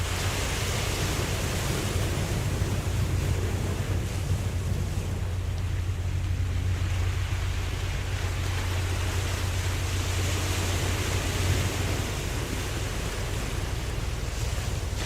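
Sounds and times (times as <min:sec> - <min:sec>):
ocean waves washing: 0:00.0 - 0:15.0
steady low hum: 0:00.0 - 0:15.0.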